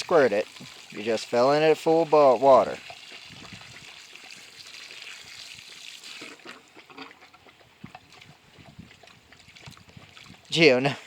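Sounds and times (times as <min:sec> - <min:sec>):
small splashes and drips: 0:00.0 - 0:10.7
hose water into bucket: 0:00.0 - 0:11.0.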